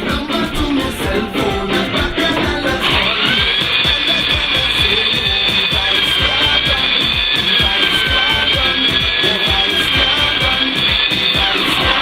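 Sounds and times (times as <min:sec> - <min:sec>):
background music with low thumps: 0:00.0 - 0:12.0.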